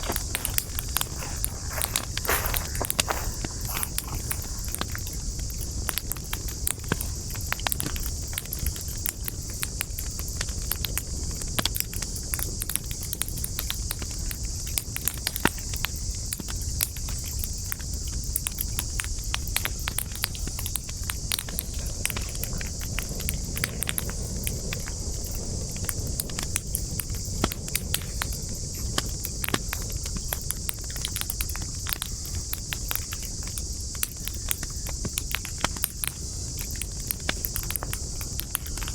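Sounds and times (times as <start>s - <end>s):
insect chorus: 0.0s - 38.9s
wood fire crackling: 0.0s - 38.9s.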